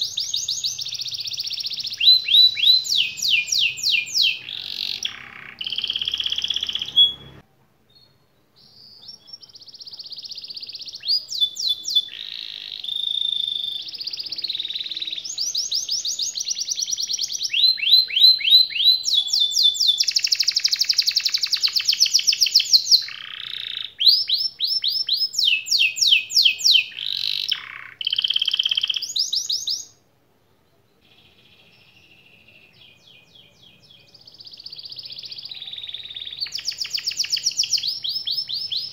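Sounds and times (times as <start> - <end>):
canary singing: 0.0 - 7.4, 8.0 - 30.0, 31.0 - 38.9.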